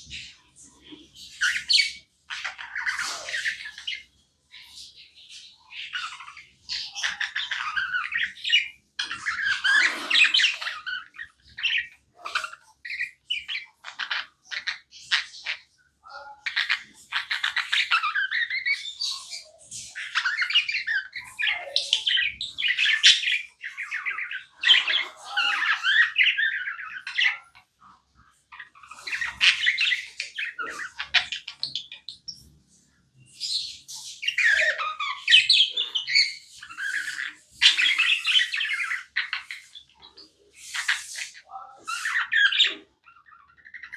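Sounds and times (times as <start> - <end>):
budgerigars chirping and chattering: 0.0 - 43.9.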